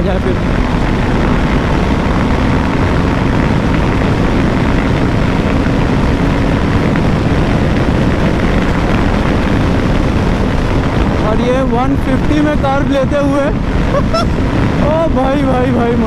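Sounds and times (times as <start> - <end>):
motorcycle engine at high revs: 0.0 - 16.0
wind rush over microphone: 0.0 - 16.0.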